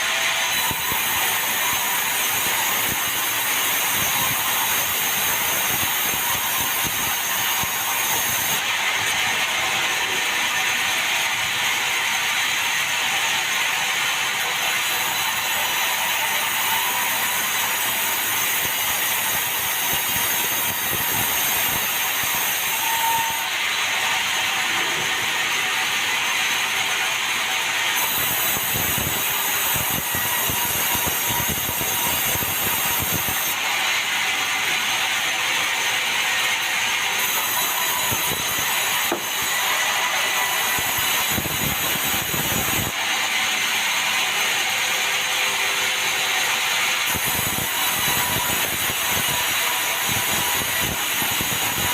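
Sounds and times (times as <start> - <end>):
sawmill saw cutting timber: 0.0 - 51.9.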